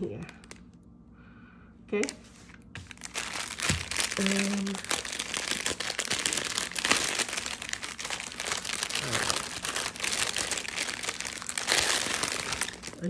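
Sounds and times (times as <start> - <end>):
plastic bags crinkling: 0.0 - 0.8, 2.0 - 13.0.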